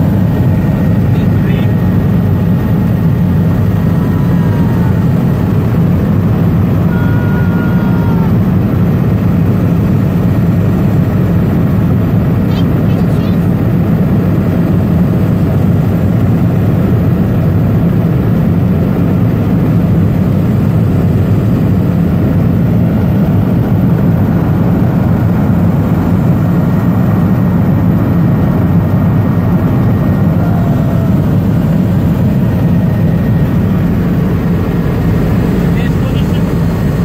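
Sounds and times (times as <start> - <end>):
helicopter rotor drone in cabin: 0.0 - 37.0.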